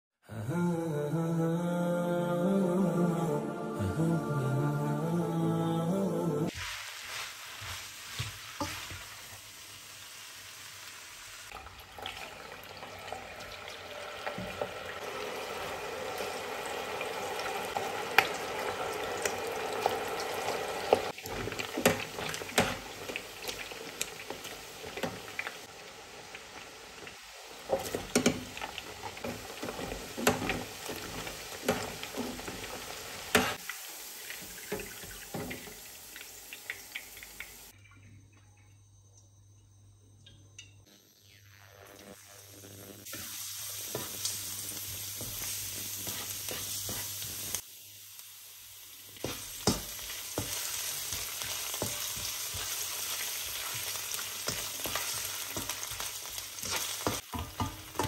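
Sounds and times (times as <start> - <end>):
chicken sizzling in hot oil: 6.5 - 37.8, 41.1 - 58.0.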